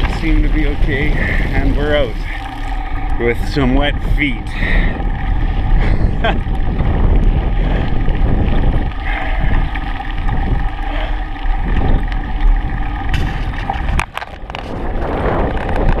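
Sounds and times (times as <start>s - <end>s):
vehicle engine running: 0.0s - 16.0s
wind rumbling on microphone: 0.0s - 16.0s.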